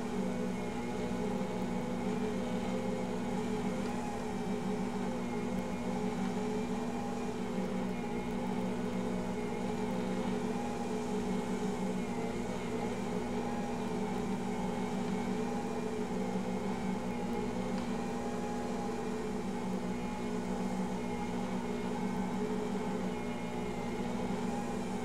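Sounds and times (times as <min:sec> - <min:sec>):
stand mixer motor hum: 0:00.0 - 0:25.0.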